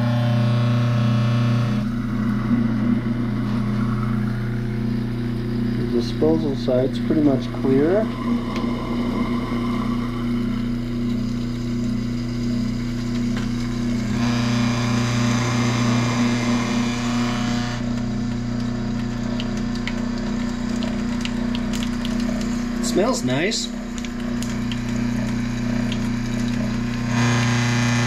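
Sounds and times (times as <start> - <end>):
garbage disposal motor humming: 0.0 - 28.0
tap water running into drain: 1.8 - 28.0.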